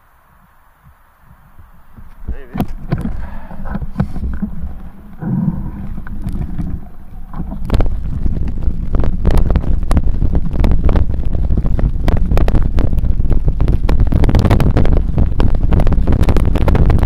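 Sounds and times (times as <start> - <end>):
wind buffeting microphone: 0.4 - 17.0.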